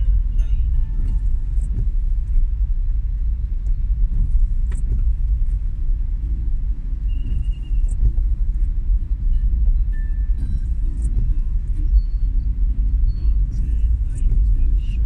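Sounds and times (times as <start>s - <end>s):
vehicle rumble on road: 0.0s - 15.0s.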